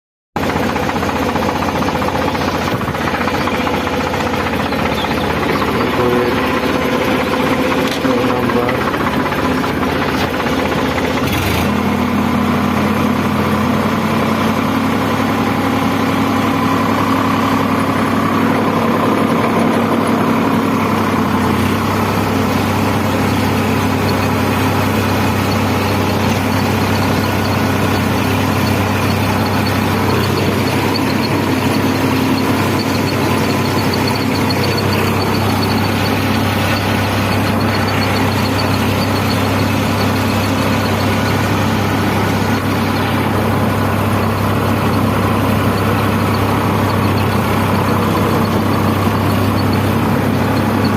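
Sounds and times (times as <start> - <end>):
tractor engine running: 0.4 - 50.9.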